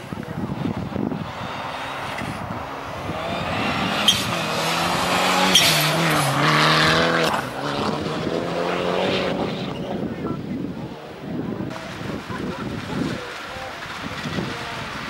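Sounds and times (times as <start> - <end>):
rally car engine passing: 0.0 - 15.0.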